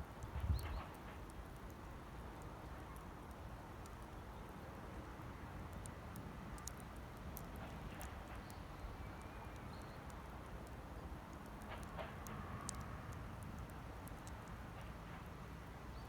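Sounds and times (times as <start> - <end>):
campfire crackling and popping: 0.0 - 4.3, 5.3 - 14.6.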